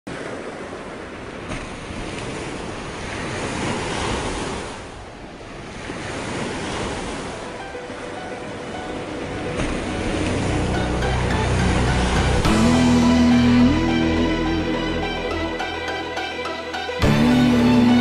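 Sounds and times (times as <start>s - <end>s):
wind: 0.0s - 18.0s
sea waves washing: 0.1s - 18.0s.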